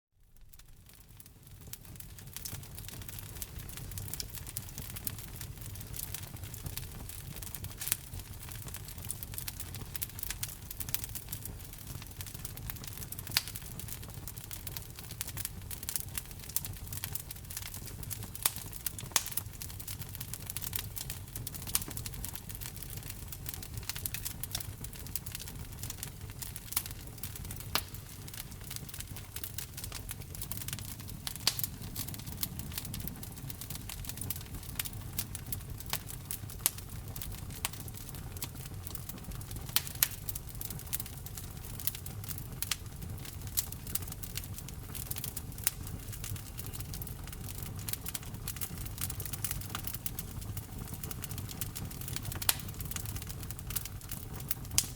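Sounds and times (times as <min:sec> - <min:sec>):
low rumble of flames: 0:00.3 - 0:54.9
wood fire crackling and popping: 0:00.3 - 0:54.9.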